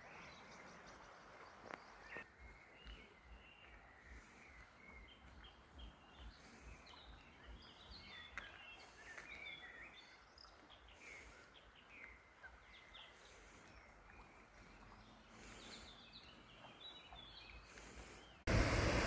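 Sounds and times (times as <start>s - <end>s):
small birds chirping: 0.0s - 18.5s.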